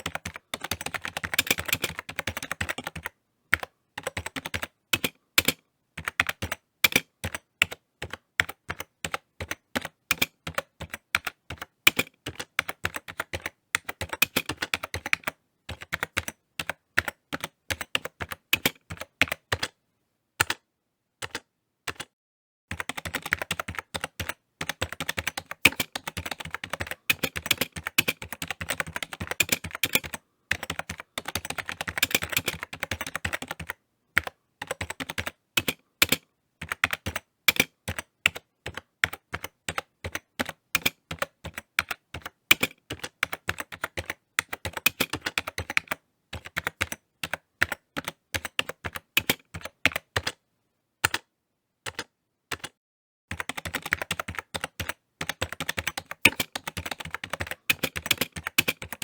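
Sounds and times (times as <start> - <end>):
keyboard typing clicks: 0.0 - 19.8, 22.7 - 50.4, 51.9 - 59.0.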